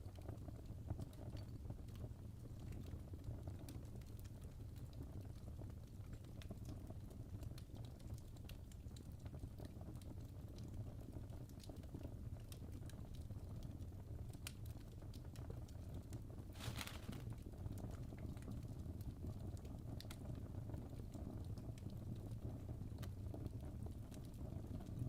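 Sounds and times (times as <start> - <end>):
fire crackling: 0.1 - 25.0.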